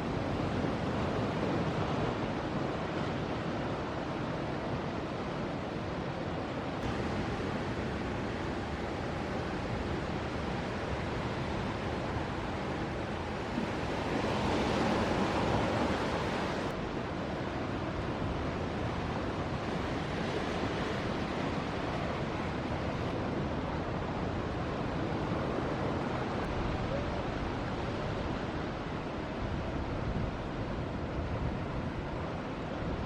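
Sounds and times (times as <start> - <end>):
ocean waves breaking: 0.1 - 33.0.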